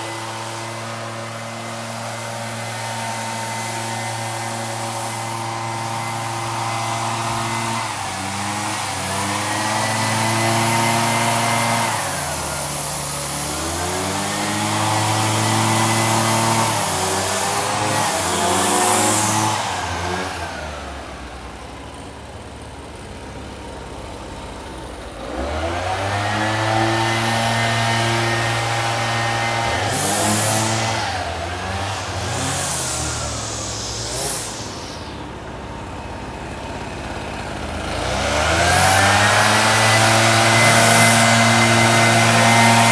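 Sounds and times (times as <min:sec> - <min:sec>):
two-stroke engine revving and idling: 0:00.0 - 0:42.9.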